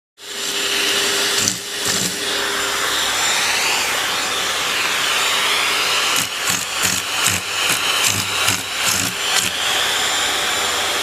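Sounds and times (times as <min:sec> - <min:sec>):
vacuum cleaner whining: 0:00.2 - 0:11.0.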